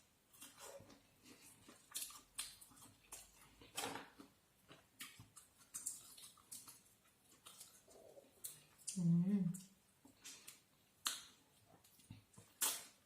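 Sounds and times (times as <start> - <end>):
clicks and crackles of eating food: 0.2 - 13.0.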